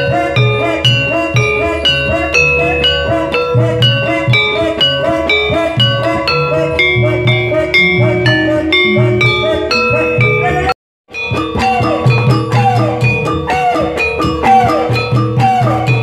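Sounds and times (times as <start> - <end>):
drumming: 0.0 - 16.0
metallophones ringing melody: 0.0 - 16.0.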